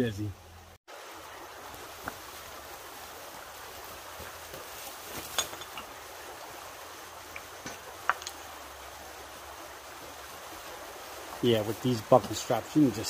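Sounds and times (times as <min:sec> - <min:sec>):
creek flowing: 0:00.4 - 0:13.0.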